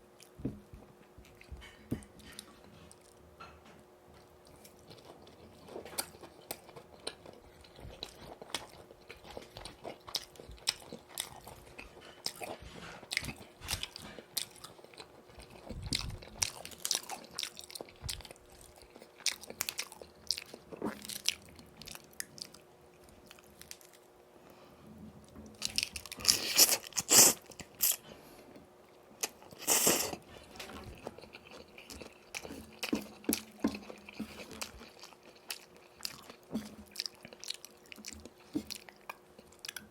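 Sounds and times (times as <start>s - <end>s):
chewing crunchy fried chicken: 4.2s - 24.2s, 25.5s - 39.9s.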